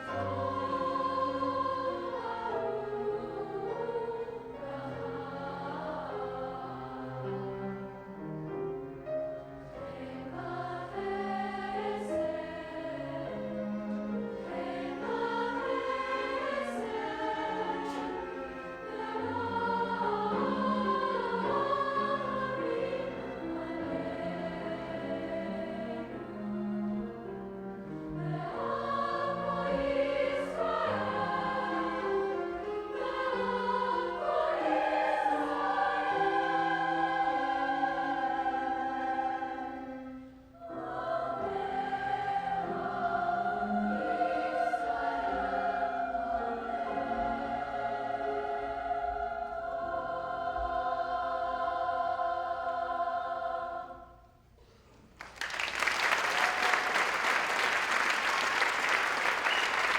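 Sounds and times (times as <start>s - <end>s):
choir singing: 0.0s - 54.4s, 55.2s - 59.9s.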